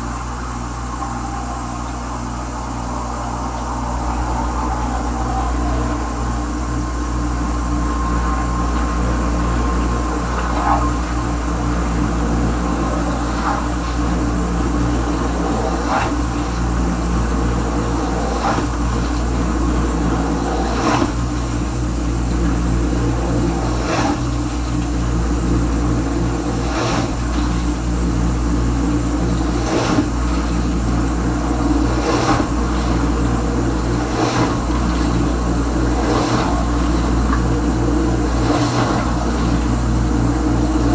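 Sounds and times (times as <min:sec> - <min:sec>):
dishwasher pump hum: 0:00.0 - 0:40.9
water spraying inside dishwasher: 0:00.1 - 0:40.9.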